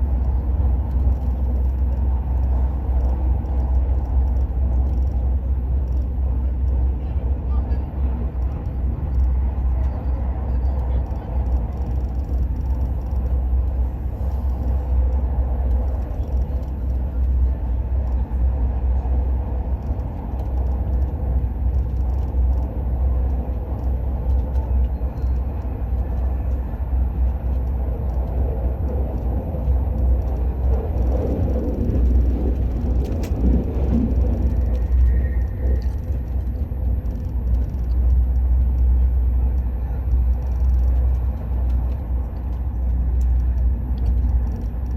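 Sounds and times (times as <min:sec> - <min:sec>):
train rumbling at speed: 0:00.0 - 0:44.9.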